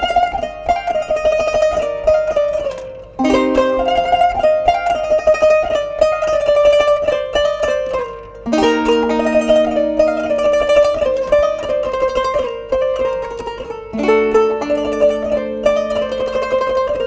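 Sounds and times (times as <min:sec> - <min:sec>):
plucked zither melody: 0:00.0 - 0:17.0.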